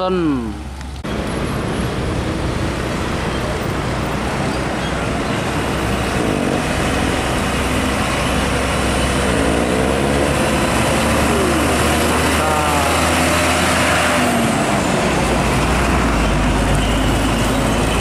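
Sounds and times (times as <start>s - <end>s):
road traffic: 0.0s - 18.0s
truck diesel engine under load: 0.0s - 18.0s.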